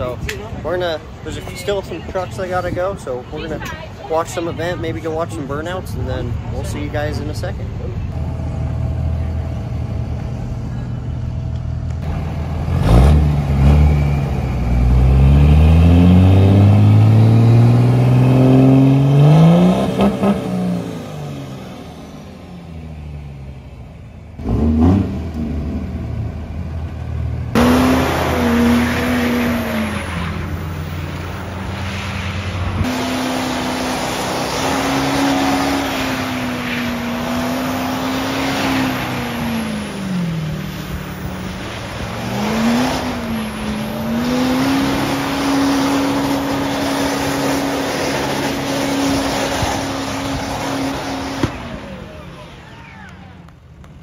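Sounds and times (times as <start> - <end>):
diesel truck engine revving: 4.0 - 53.6.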